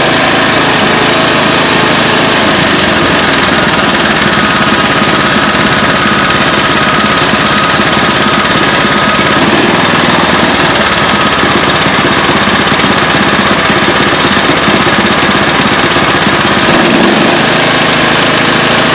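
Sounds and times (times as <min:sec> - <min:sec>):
mower engine knocking: 0:00.0 - 0:18.9.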